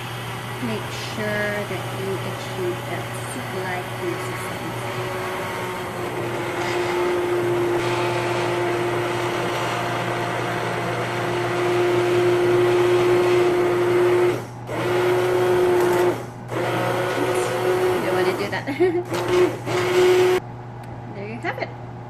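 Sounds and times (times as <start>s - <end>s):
hand blender motor whining: 0.0s - 20.4s.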